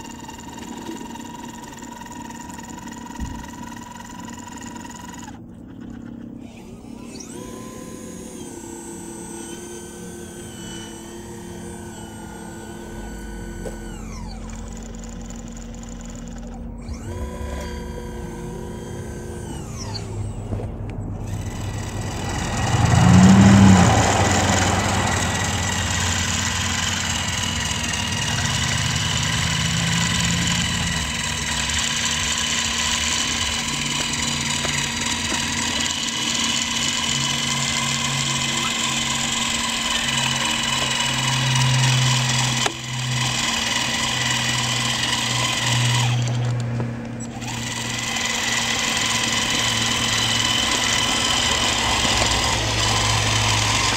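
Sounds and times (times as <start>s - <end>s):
model excavator motors whining: 0.0s - 53.9s.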